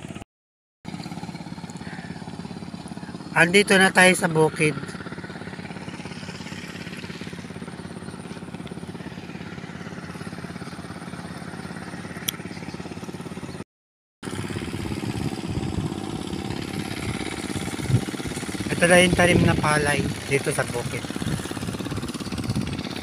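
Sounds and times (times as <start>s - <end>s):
small motorcycle engine running: 0.0s - 0.2s, 0.9s - 13.6s, 14.2s - 23.0s.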